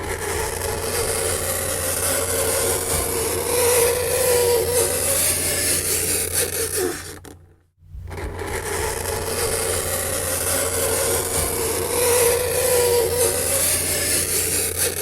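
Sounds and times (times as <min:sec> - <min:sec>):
fingernails scraping chalkboard: 0:00.0 - 0:07.4, 0:08.1 - 0:15.0.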